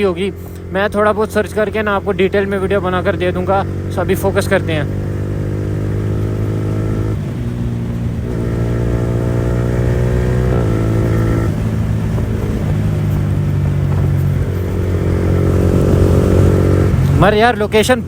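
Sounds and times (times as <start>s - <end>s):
loud motorcycle engine: 0.0s - 18.0s.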